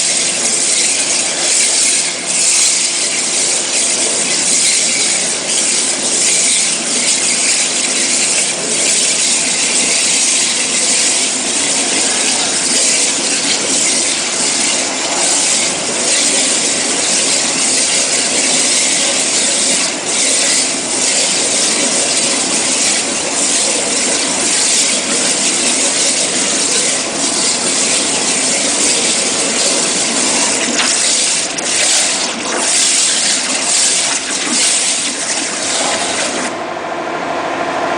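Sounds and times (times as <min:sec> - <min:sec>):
waterjet cutting hiss: 0:00.0 - 0:36.5.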